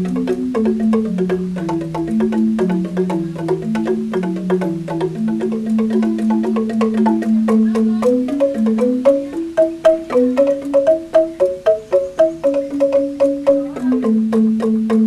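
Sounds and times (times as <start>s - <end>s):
bamboo xylophone melody: 0.0s - 15.0s.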